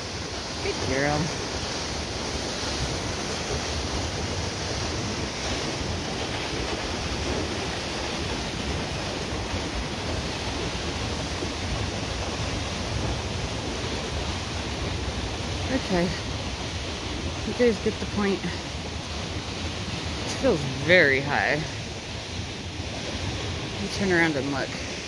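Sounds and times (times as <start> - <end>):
rushing waterfall and river: 0.0 - 25.0
wind rumble on microphone: 0.0 - 25.0.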